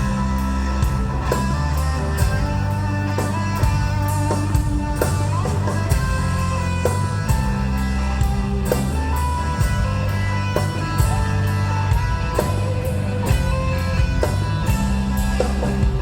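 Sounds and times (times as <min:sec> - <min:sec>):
bass line: 0:00.0 - 0:16.0
drum beat with cymbals: 0:00.0 - 0:16.0
electric guitar: 0:00.0 - 0:16.0.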